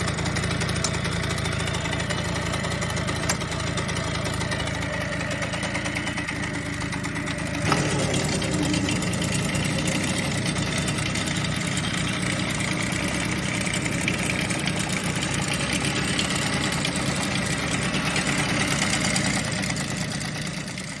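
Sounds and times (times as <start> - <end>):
moped engine running: 0.0 - 21.0.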